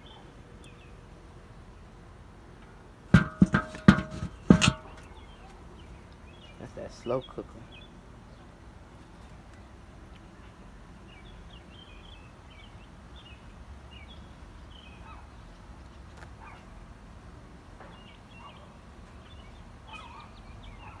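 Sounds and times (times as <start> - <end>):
birds chirping: 0.0 - 2.0, 4.2 - 16.8, 17.8 - 21.0.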